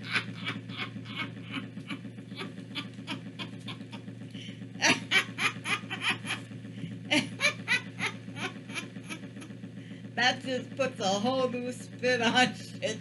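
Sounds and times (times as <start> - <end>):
woman laughing: 0.0 - 9.5, 12.1 - 13.0.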